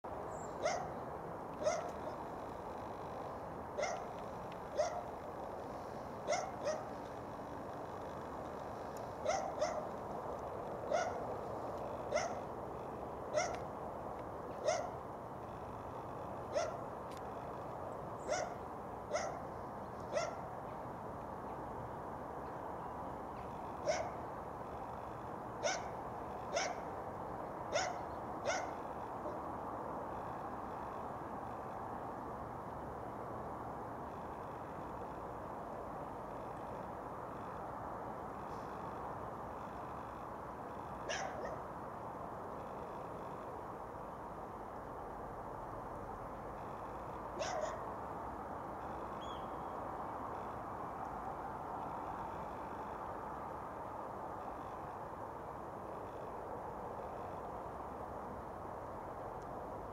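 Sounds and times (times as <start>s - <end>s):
steady background noise: 0.0s - 59.9s.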